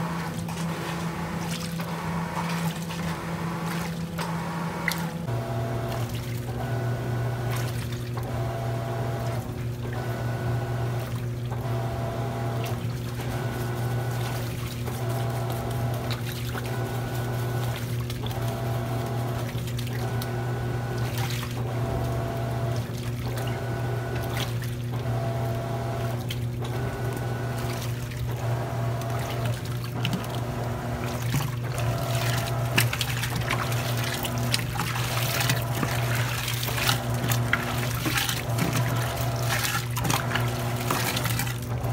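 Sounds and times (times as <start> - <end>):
steady low hum: 0.0 - 41.9
water sloshing in washing machine: 0.0 - 41.9.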